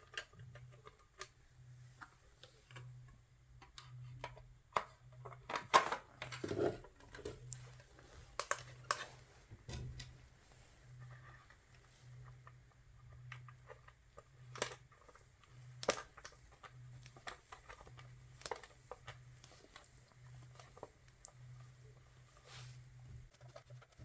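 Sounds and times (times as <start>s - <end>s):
small parts clicking and tapping: 0.0s - 10.2s, 11.0s - 21.7s
faint low hum: 0.0s - 24.0s.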